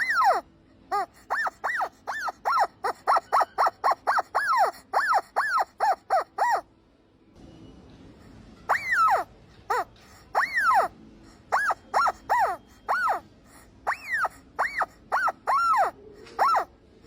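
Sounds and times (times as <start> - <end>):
squeaky dog toy squeaking: 0.0 - 6.7, 8.6 - 10.9, 11.5 - 16.8.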